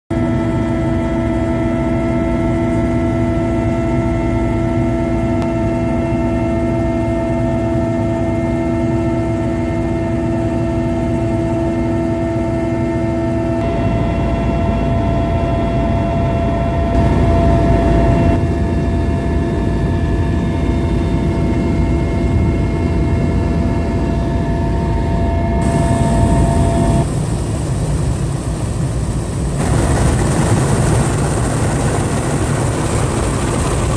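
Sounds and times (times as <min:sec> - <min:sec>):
helicopter engine and rotor drone: 0:00.1 - 0:33.9
helicopter turbine whine: 0:00.1 - 0:33.9.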